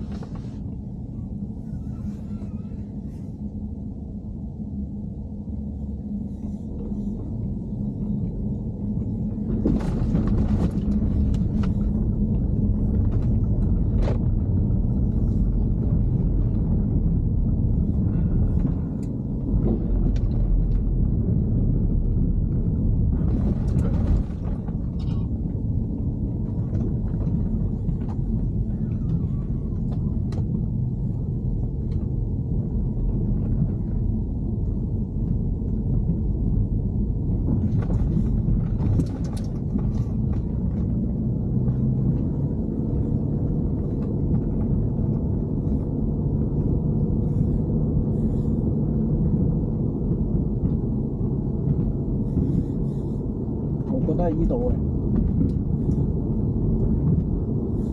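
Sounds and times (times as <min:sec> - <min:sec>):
car engine low rumble: 0:00.0 - 0:57.9.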